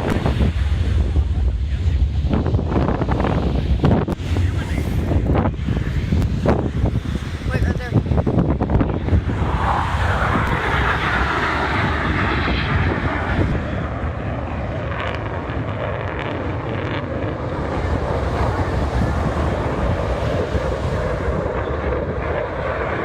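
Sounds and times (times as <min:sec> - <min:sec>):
aircraft engine passing: 0:00.0 - 0:23.0
wind buffeting microphone: 0:00.0 - 0:23.0.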